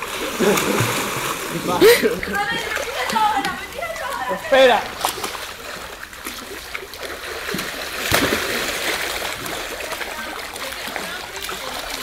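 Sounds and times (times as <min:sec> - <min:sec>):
splash in swimming pool: 0:00.0 - 0:12.0.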